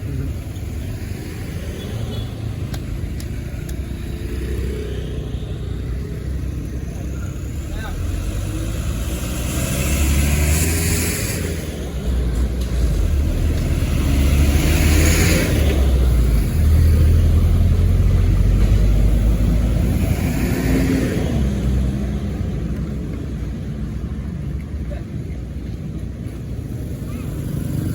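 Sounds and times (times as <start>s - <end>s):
vehicle engines rumbling: 0.0s - 27.9s.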